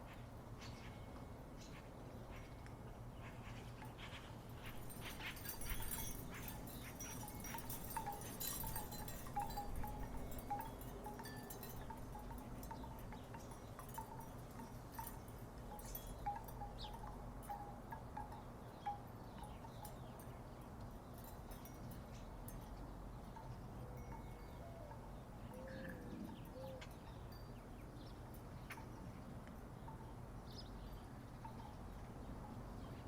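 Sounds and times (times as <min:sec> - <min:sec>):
wooden wind chimes clonking: 0:04.6 - 0:32.9.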